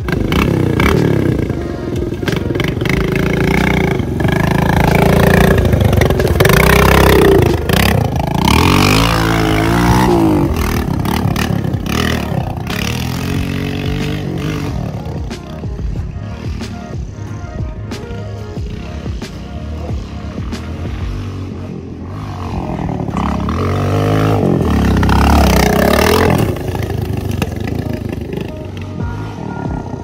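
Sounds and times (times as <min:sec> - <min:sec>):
dirt bike engine revving: 0:00.0 - 0:17.1, 0:18.6 - 0:30.0.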